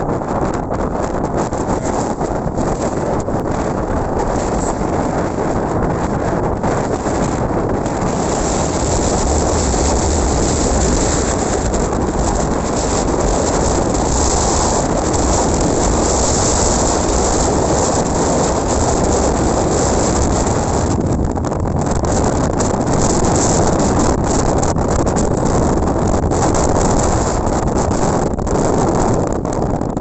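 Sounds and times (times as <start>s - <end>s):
wind blowing across microphone: 0.0s - 30.0s.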